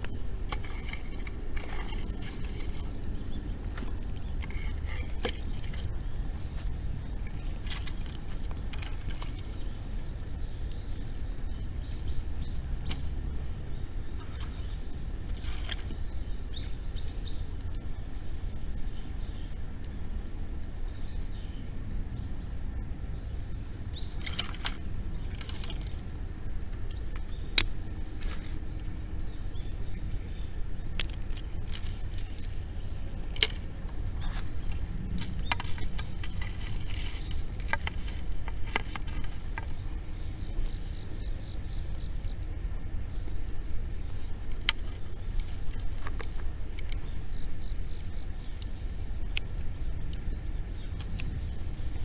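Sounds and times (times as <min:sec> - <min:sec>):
bonfire crackling and popping: 0:00.0 - 0:52.0
steady low rumble: 0:00.0 - 0:52.0.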